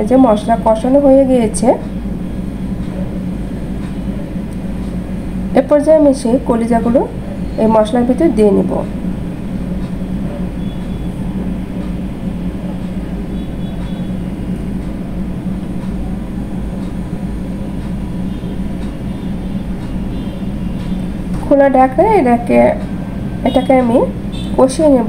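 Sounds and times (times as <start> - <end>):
low kitchen hum and rumble: 0.0 - 25.0.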